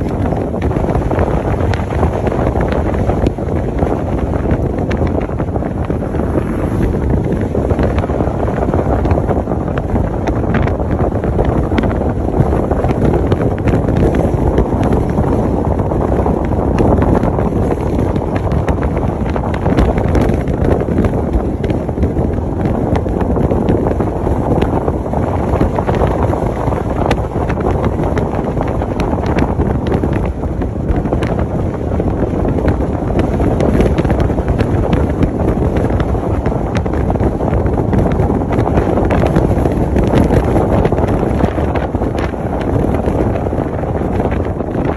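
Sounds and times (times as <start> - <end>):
car rumbling on the road: 0.0 - 44.9
wind buffeting the microphone: 0.0 - 44.9.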